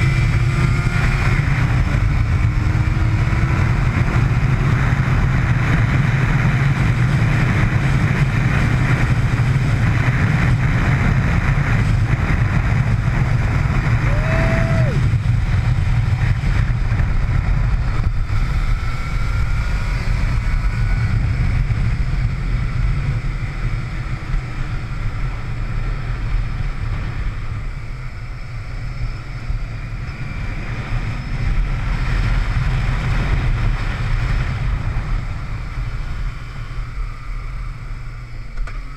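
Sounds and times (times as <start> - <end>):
motorcycle riding at speed: 0.0 - 38.9.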